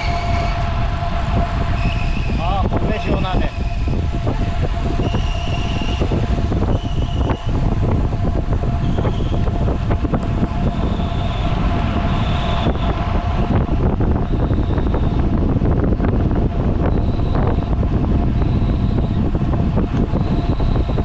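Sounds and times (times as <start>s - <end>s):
faint steady whine: 0.0s - 21.0s
wind buffeting microphone: 0.0s - 21.0s.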